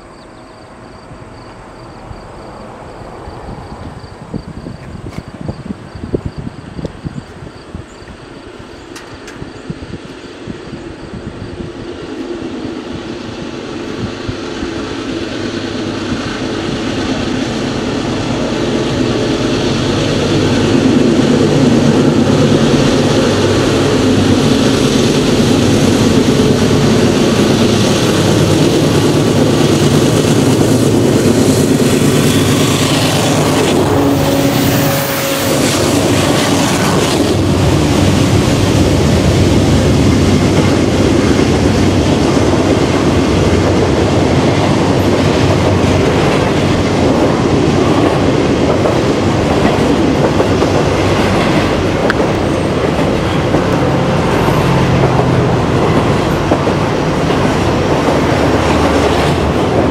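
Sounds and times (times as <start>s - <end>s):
container cars rolling by: 0.0s - 59.9s
diesel locomotive engine hum: 0.0s - 59.9s.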